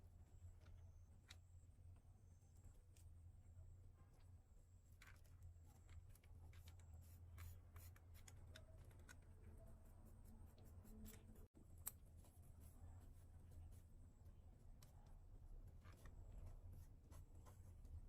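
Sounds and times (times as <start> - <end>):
low steady hum: 0.0 - 18.0
faint scraping and clicking: 0.2 - 18.0.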